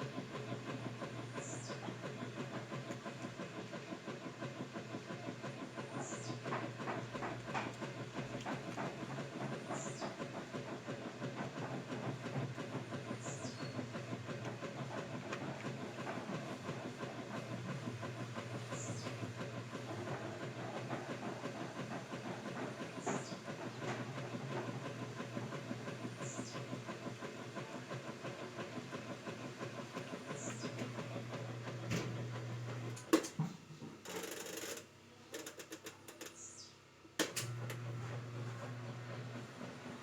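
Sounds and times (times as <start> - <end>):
washing machine motor hum: 0.0 - 40.0.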